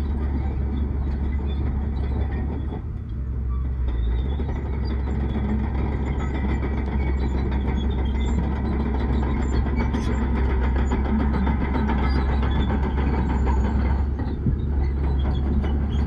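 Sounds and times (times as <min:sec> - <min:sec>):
bulldozer diesel engine rumbling: 0:00.0 - 0:16.0.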